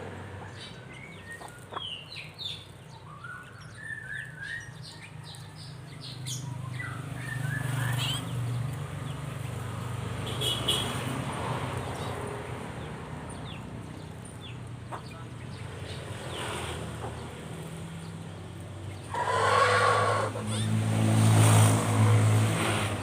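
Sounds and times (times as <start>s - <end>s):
small birds chirping: 0.2s - 20.9s.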